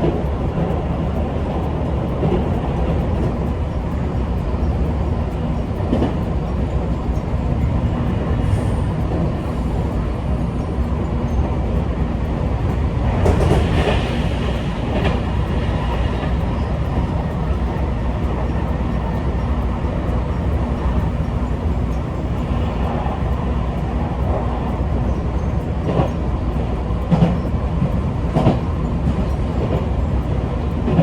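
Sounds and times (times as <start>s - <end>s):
rail clacks: 0.0s - 31.0s
train wheels rumbling on track: 0.0s - 31.0s.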